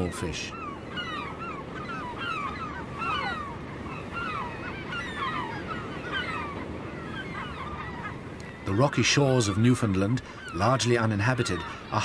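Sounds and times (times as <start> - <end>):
seabirds calling: 0.0 - 12.0.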